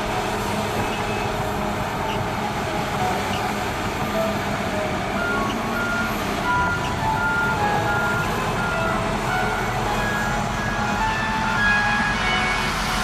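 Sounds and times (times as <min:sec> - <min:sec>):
heavy diesel machinery running: 0:00.0 - 0:13.0
truck reversing alarm beeping: 0:00.0 - 0:13.0.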